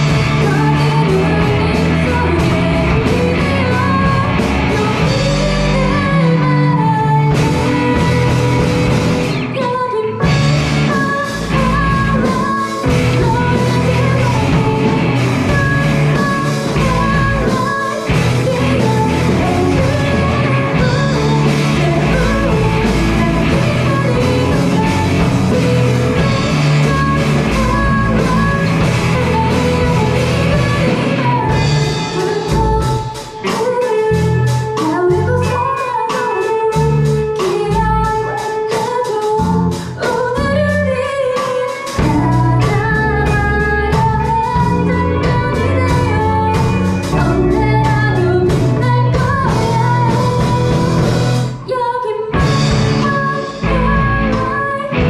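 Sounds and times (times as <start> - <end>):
rock band with lead vocals: 0.0 - 55.0.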